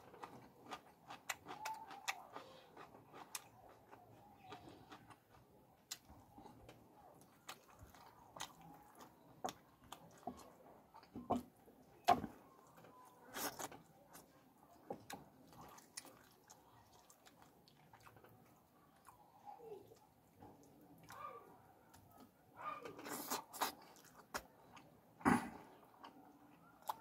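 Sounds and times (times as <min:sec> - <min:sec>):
biting and chewing food: 0:00.0 - 0:27.0.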